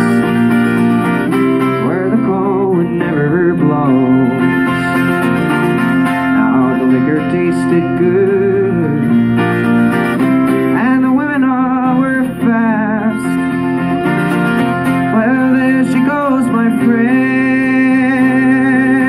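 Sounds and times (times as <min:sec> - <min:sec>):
man singing folk song: 0:00.0 - 0:19.0
twelve-string acoustic guitar: 0:00.0 - 0:19.0.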